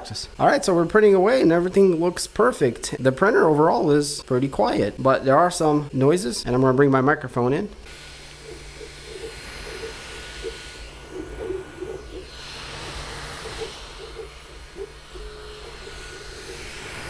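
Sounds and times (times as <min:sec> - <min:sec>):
cooling fans whirring: 0:00.0 - 0:17.0
stepper motor tones: 0:00.0 - 0:17.0.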